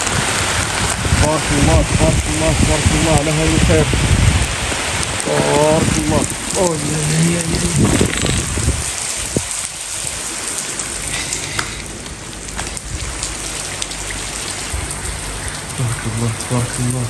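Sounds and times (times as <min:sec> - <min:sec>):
heavy rain on tiled floor: 0:00.0 - 0:17.0
raindrop splashes: 0:00.0 - 0:17.0.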